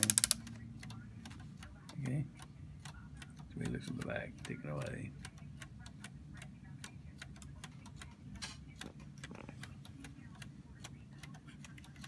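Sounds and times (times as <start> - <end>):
wooden clock ticking: 0.0 - 12.0.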